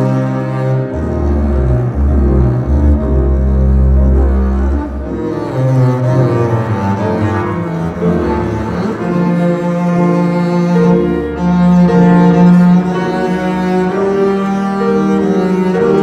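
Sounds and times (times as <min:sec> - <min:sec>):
bowed double bass melody: 0:00.0 - 0:16.0.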